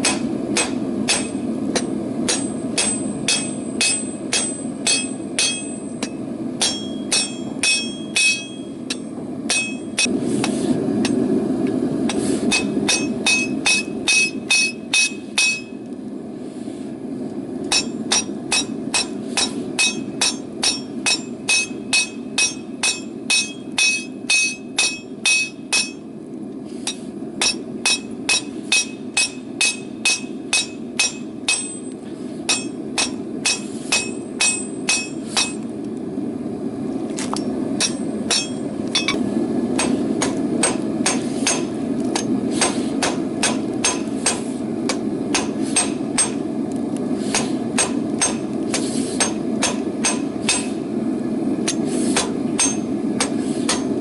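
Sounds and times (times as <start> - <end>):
hammer striking metal on anvil: 0.0 - 11.2, 12.1 - 15.8, 17.6 - 26.1, 26.8 - 35.6, 37.2 - 39.2, 39.8 - 46.5, 47.3 - 50.8, 51.6 - 54.0.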